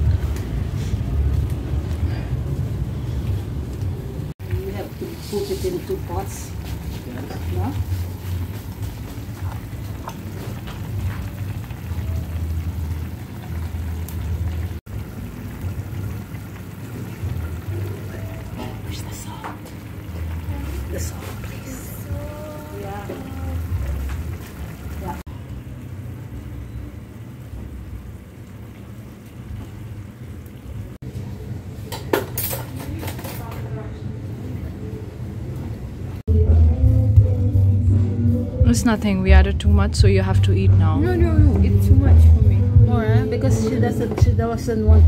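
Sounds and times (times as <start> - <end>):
low steady frying rumble: 0.0 - 45.0.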